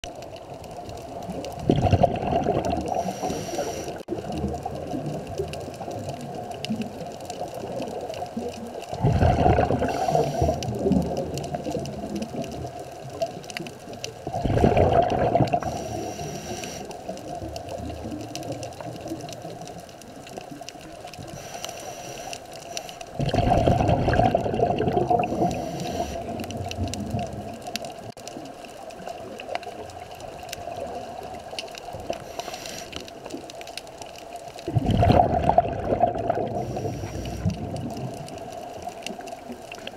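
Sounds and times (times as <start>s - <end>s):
underwater noise: 0.0s - 39.9s
exhaled bubbles underwater: 0.1s - 21.6s, 23.1s - 33.7s, 34.4s - 39.9s.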